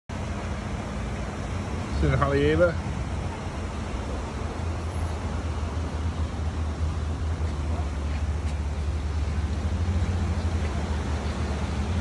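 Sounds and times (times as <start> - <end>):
floodwater rushing: 0.2 - 12.0.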